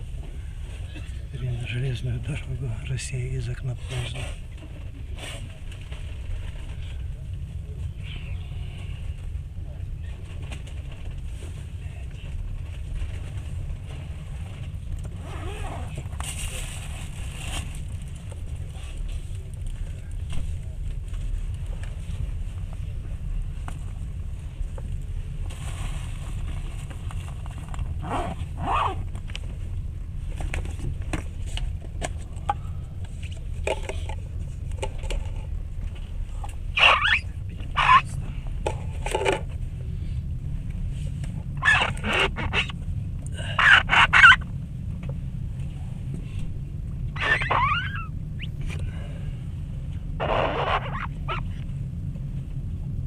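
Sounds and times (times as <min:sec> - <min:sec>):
train rumbling inside carriage: 0:00.0 - 0:50.2.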